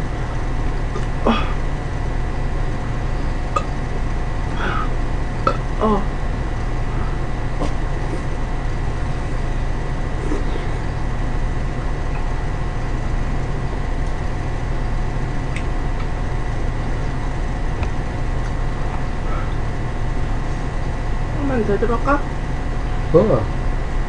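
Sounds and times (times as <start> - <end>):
faint steady whine: 0.0 - 24.0
low hum and hiss: 0.0 - 24.0.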